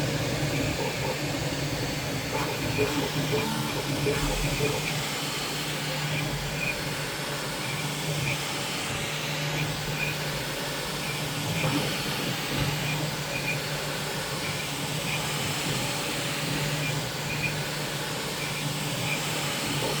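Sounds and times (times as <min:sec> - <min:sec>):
printer fan hiss: 0:00.0 - 0:20.0.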